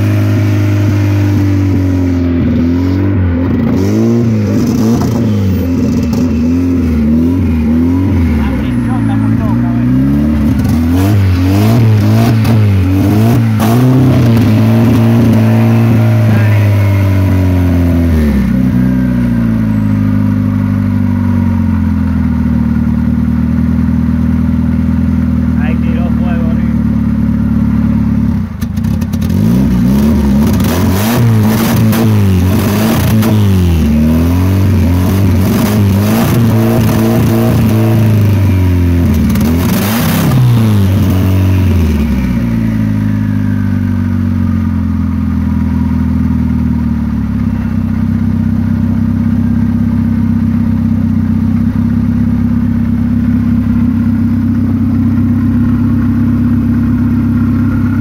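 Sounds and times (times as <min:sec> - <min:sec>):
car engine revving and idling: 0:00.0 - 0:58.0
exhaust crackles: 0:00.0 - 0:58.0.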